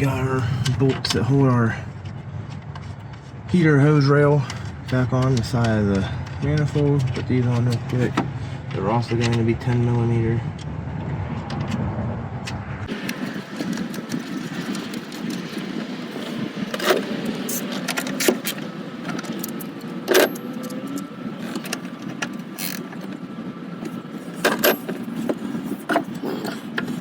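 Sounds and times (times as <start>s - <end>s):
steady background noise: 0.0s - 27.0s.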